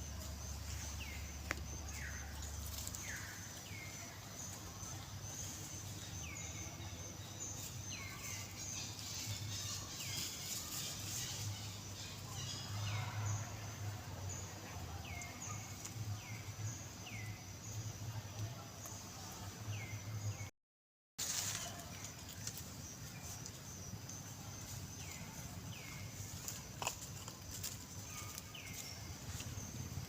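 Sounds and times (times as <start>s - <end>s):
outdoor background noise: 0.0s - 20.5s, 21.2s - 30.0s.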